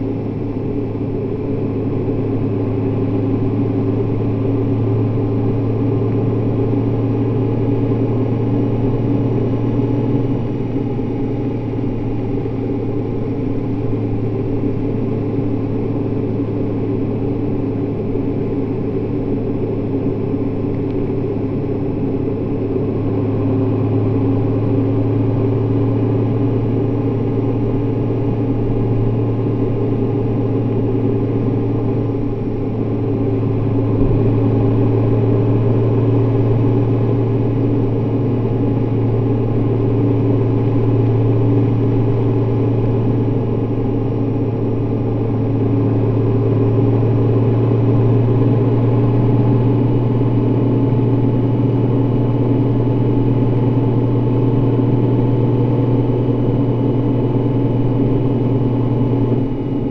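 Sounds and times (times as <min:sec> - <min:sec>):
motorcycle engine drone: 0:00.0 - 0:59.9.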